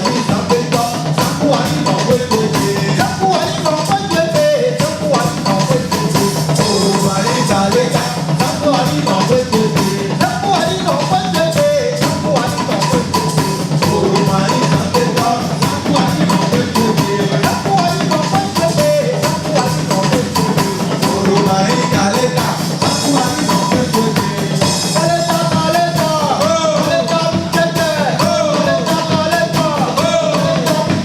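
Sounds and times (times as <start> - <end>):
music with drum-kit beat: 0.0 - 31.0.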